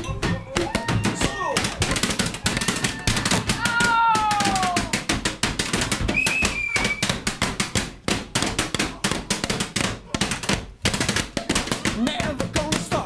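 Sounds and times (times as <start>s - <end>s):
knocks on glass bottles: 0.0s - 13.0s.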